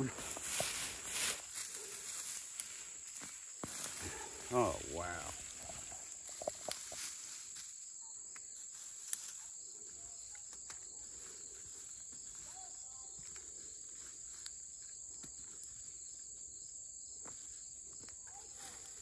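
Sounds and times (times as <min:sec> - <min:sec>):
insect chorus: 0:00.0 - 0:19.0.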